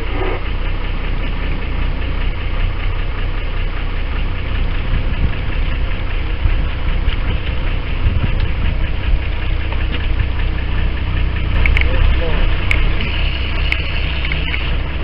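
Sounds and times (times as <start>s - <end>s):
boat engine idling: 0.0s - 15.0s
water wash: 0.0s - 15.0s.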